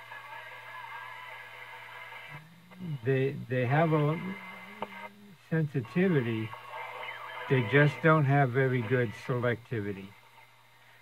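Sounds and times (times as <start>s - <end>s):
faint music from radio speaker: 0.0s - 11.0s
steady low hum: 0.0s - 11.0s.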